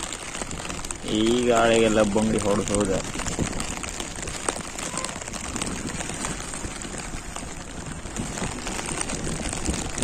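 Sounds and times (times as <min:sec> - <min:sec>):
rain hissing with drop ticks: 0:00.0 - 0:10.0
wind: 0:00.0 - 0:10.0.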